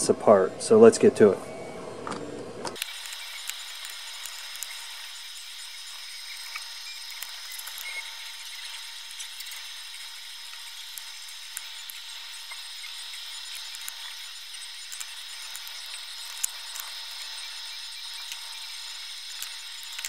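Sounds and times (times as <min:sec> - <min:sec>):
screwdriver clicks and scrapes: 0:02.8 - 0:20.0
steady hiss: 0:02.8 - 0:20.0.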